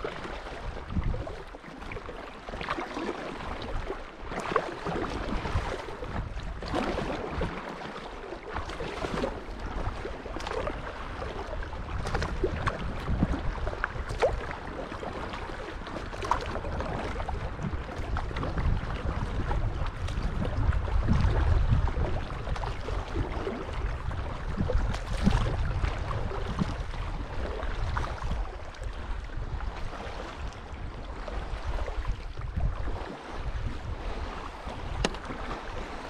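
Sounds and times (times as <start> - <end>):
water lapping against kayak: 0.0 - 36.0
wind rumble on microphone: 0.0 - 36.0.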